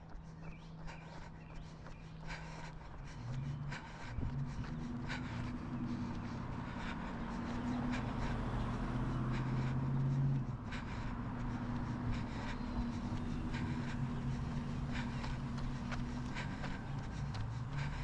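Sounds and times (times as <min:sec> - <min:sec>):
jogger's footfalls: 0:00.0 - 0:18.0
person breathing: 0:00.0 - 0:18.0
vehicle engines humming: 0:00.0 - 0:18.0.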